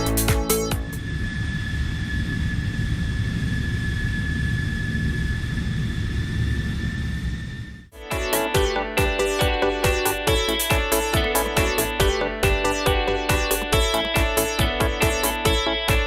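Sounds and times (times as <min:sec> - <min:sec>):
jet engine running: 0:00.0 - 0:16.0.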